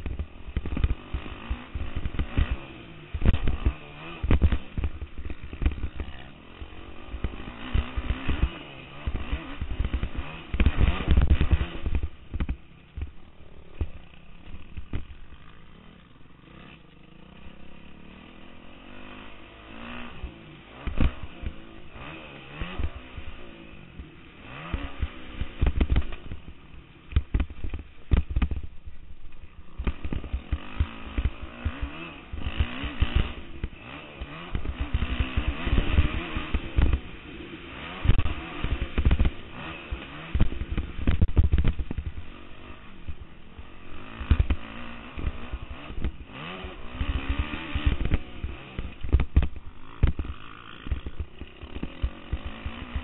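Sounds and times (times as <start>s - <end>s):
dirt bike engine revving: 0.0s - 28.9s, 29.5s - 53.0s.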